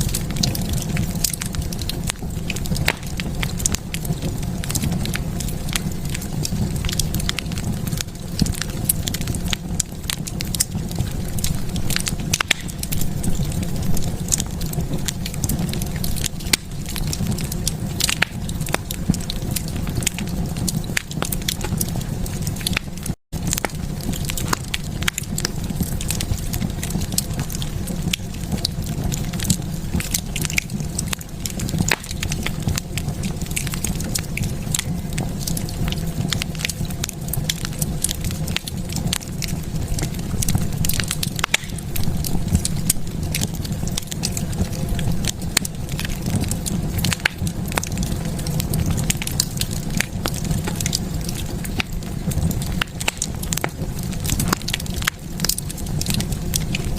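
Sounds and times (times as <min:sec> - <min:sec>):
fire crackling and popping: 0:00.0 - 0:56.9.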